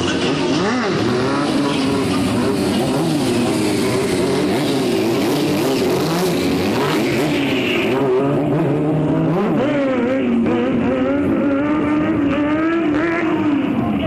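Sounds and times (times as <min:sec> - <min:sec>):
motorcycle engine revving hard: 0:00.0 - 0:14.0.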